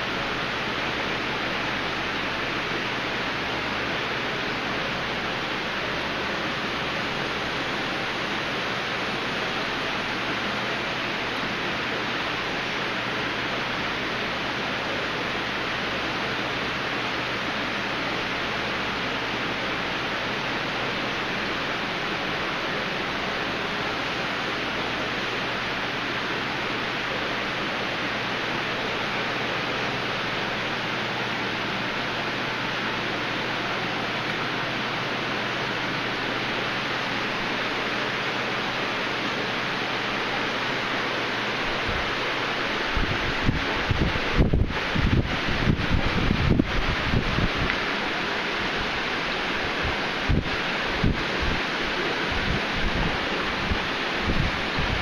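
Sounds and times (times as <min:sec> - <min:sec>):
aquarium filter water rushing: 0:00.0 - 0:55.0.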